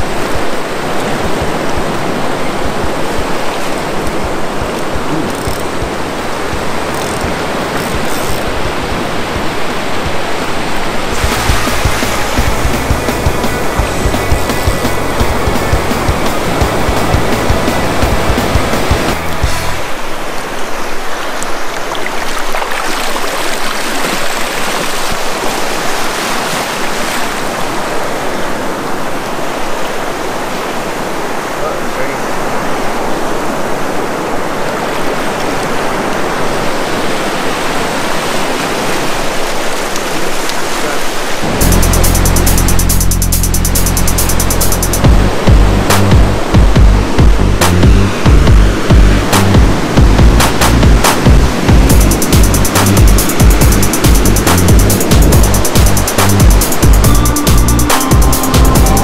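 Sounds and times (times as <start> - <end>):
ocean surf breaking on rocks: 0.0 - 42.9, 43.5 - 59.0
wind rumbling on microphone: 0.0 - 59.0.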